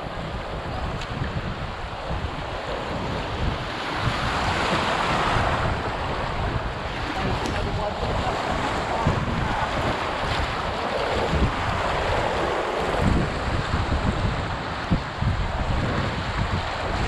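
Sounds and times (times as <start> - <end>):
rushing river rapid: 0.0 - 17.0
wind buffeting microphone: 0.0 - 17.0.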